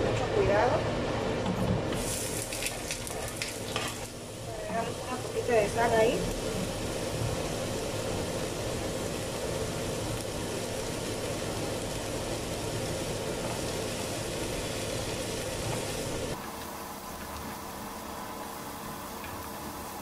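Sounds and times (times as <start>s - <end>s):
onion sizzling in a frying pan: 1.8s - 20.0s.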